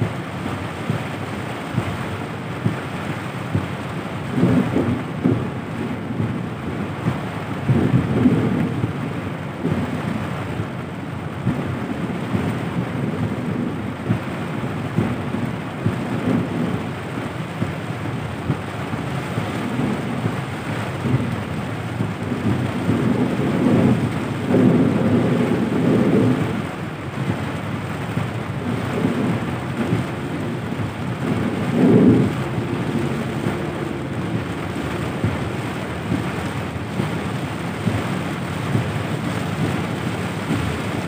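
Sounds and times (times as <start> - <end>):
heavy rain on car roof: 0.0 - 41.0.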